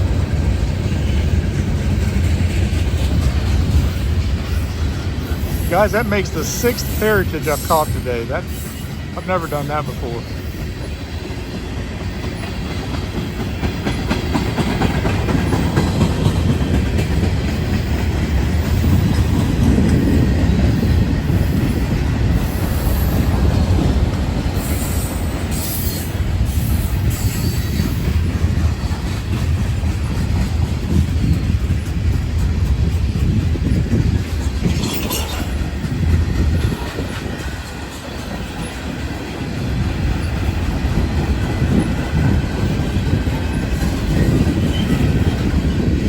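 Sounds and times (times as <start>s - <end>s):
freight train rumbling on rails: 0.0s - 46.0s.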